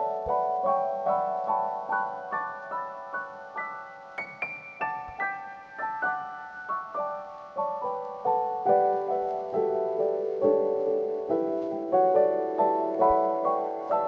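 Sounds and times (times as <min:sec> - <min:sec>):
soft slow piano melody: 0:00.0 - 0:14.0.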